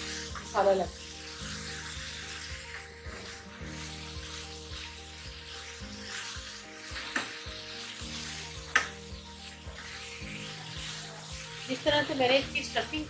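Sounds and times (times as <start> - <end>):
food sizzling in frying pan: 0.0 - 13.0
soft background music: 0.0 - 13.0.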